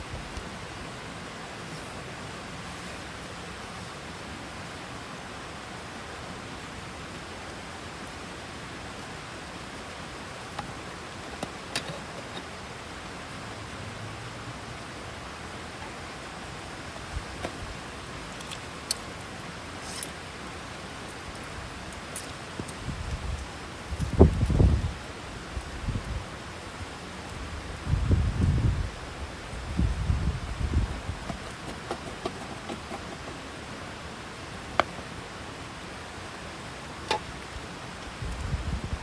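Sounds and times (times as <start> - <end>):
rushing water: 0.0 - 39.0.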